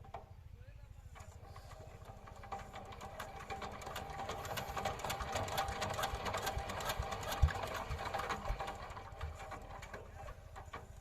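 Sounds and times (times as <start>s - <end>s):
tiller engine clattering: 1.0s - 11.0s.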